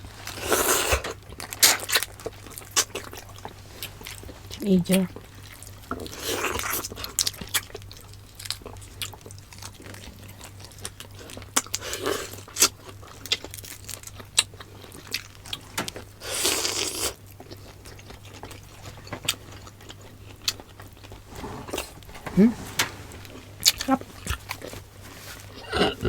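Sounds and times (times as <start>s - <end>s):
person chewing and crunching: 0.1s - 21.9s, 25.5s - 26.0s.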